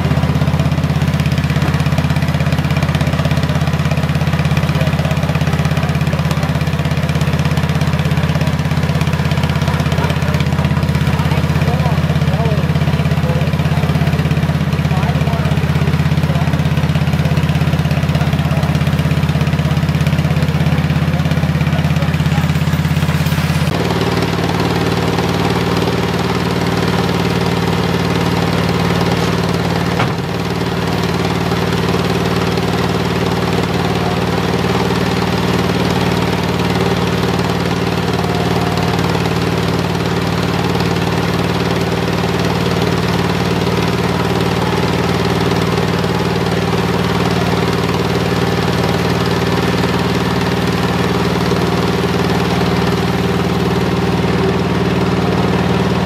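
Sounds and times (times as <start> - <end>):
ore mill machinery drone: 0.0 - 56.0.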